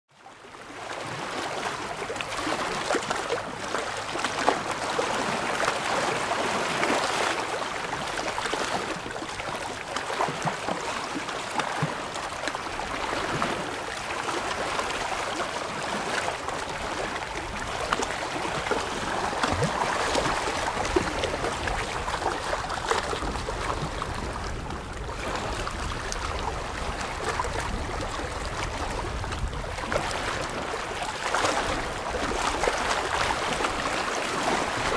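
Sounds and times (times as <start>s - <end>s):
small waves lapping on rocks: 0.5s - 34.9s.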